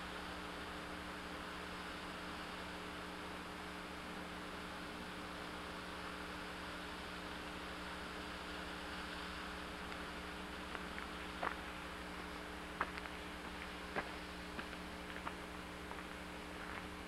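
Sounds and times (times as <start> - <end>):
low electrical hum: 0.0 - 17.0
steady hiss: 0.0 - 17.0.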